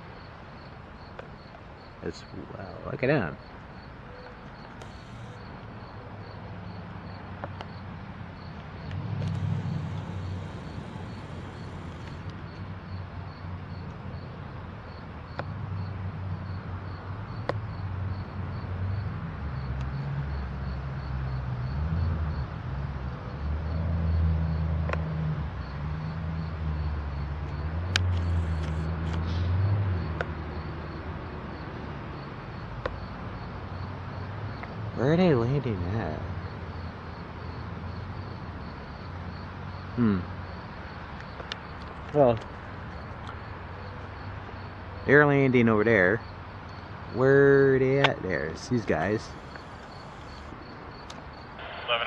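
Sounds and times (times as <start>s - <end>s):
insects chirping: 0.0s - 52.0s
vehicle engine rumbling: 2.0s - 14.2s, 21.4s - 31.5s, 32.3s - 52.0s.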